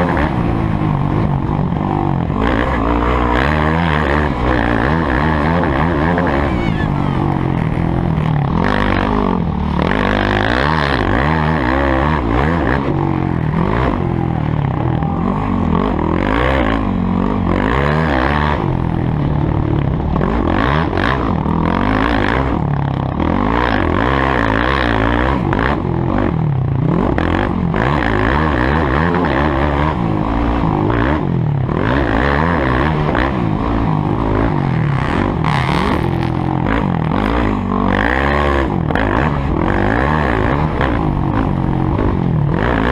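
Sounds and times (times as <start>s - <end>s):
motocross engines revving: 0.0s - 42.9s.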